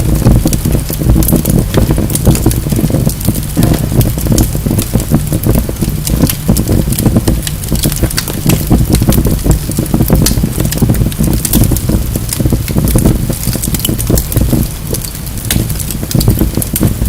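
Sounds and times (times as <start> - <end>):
fire roaring in fireplace: 0.0 - 17.0
logs crackling and popping: 0.0 - 17.0.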